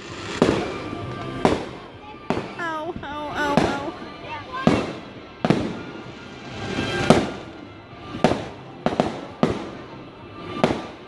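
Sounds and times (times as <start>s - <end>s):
fireworks bangs: 0.0s - 11.0s
rising firework rush: 0.0s - 11.0s.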